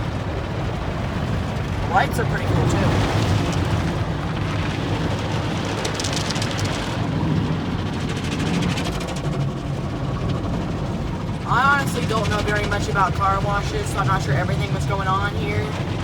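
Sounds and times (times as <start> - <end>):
car wash machinery rumble: 0.0 - 16.0.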